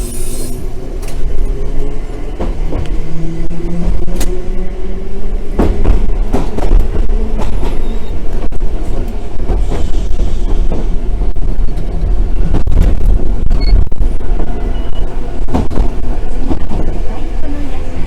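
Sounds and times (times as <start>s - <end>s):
tram rumbling along track: 0.0s - 18.0s
wheels clacking on rails: 0.0s - 18.0s.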